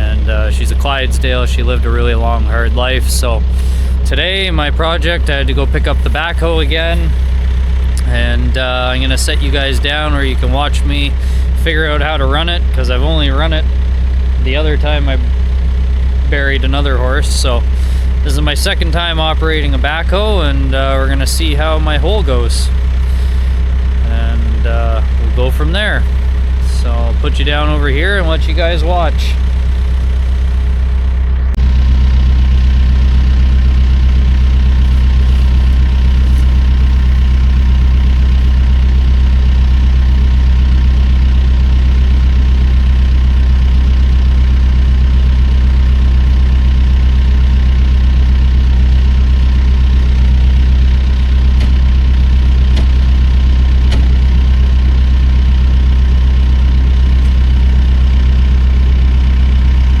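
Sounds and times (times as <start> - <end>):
backhoe diesel engine running: 0.0 - 60.0.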